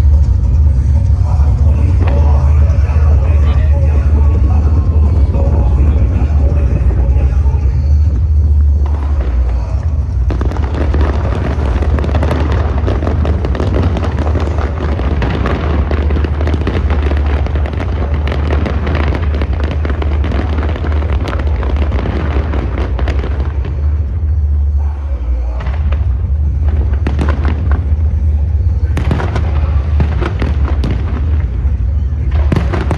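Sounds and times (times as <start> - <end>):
fireworks crackles and bangs: 0.0 - 32.9
low rumble: 0.0 - 32.9.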